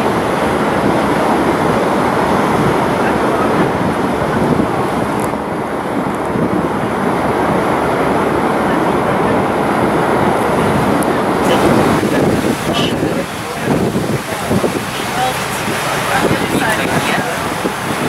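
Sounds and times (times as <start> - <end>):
boat under way: 0.0 - 18.0
water rushing: 0.0 - 18.0
wind buffeting microphone: 0.0 - 18.0.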